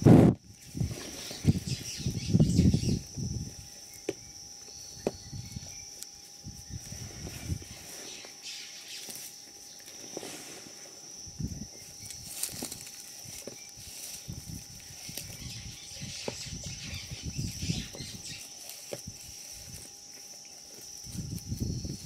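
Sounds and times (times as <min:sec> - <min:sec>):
rustling and scuffing in sawdust: 0:00.0 - 0:22.0.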